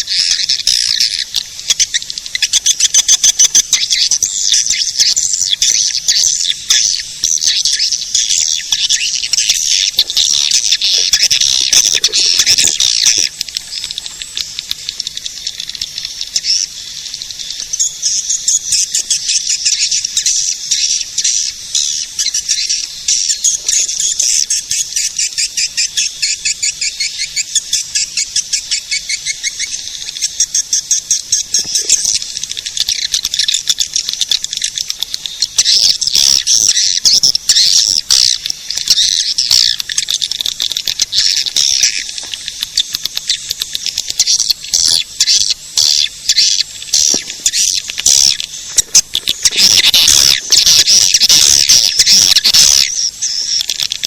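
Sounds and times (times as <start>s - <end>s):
swiftlets twittering: 0.0s - 54.0s.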